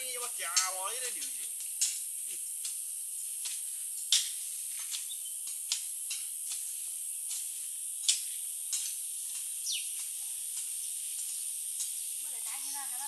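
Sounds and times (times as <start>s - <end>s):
high-pitched hiss: 0.0s - 13.0s
sharp clicks and ticks: 0.2s - 2.8s, 3.4s - 6.7s, 7.3s - 13.0s.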